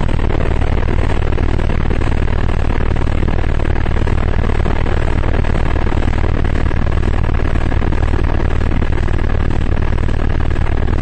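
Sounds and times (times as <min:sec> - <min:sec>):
helicopter rotor and engine drone: 0:00.0 - 0:11.0.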